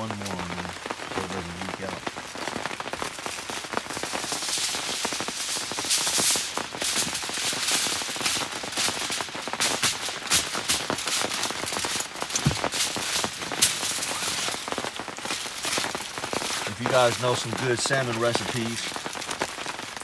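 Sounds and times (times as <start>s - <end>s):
aluminum foil crinkling: 0.0s - 20.0s
steady rain: 0.0s - 20.0s.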